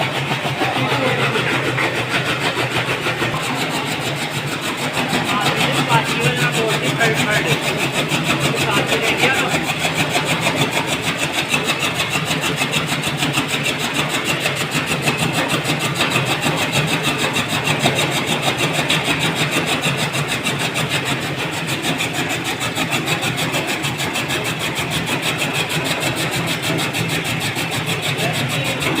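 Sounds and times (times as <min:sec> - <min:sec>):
chaff cutter clattering: 0:00.0 - 0:29.0.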